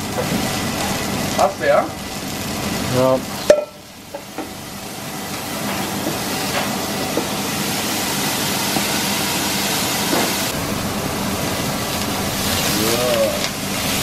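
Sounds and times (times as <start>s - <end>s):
beef patties sizzling on griddle: 0.0s - 14.0s.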